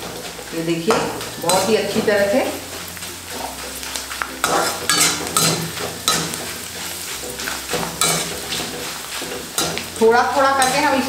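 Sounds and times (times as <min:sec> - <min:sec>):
food sizzling in hot oil: 0:00.0 - 0:11.0
metal spoon scraping a pan: 0:00.0 - 0:11.0.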